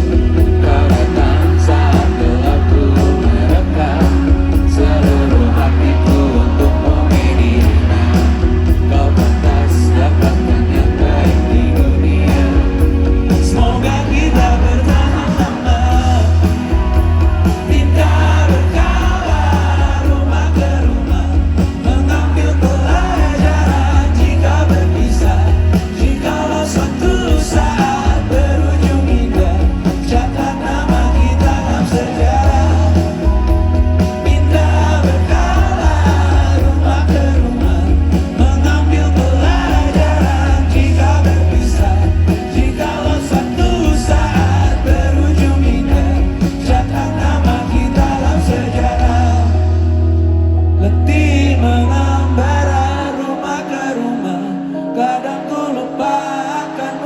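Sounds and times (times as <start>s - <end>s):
heavy bass: 0.0s - 53.4s
live band music: 0.0s - 57.0s
person singing: 0.0s - 57.0s.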